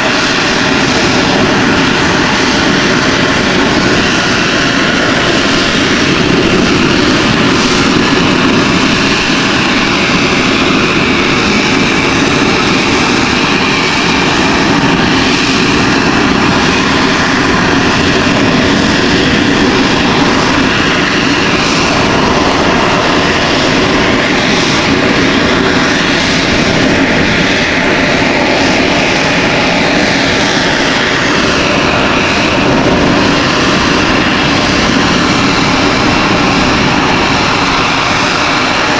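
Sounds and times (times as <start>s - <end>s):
faint jet whine: 0.0s - 38.9s
loud jet roar: 0.0s - 38.9s.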